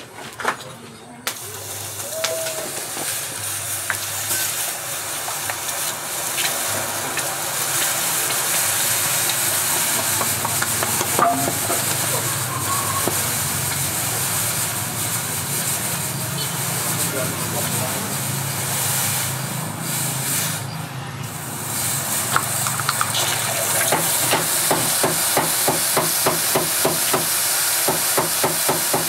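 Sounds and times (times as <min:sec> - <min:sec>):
hot steel sizzling in water: 0:01.3 - 0:29.0.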